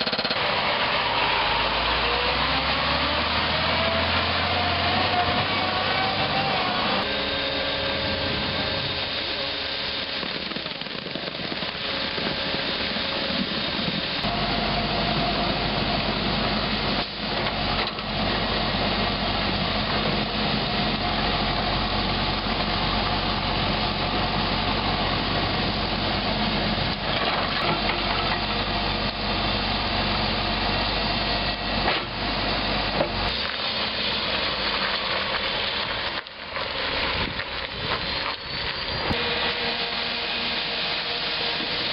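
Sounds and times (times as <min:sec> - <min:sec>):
deep low engine rumble: 0:00.0 - 0:39.7
heavy machinery engines running: 0:00.0 - 0:41.9.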